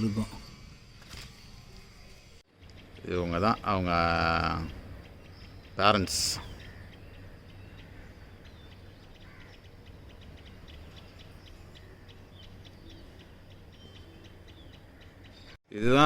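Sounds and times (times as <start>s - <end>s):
rapid high bird chirps: 2.6s - 15.6s.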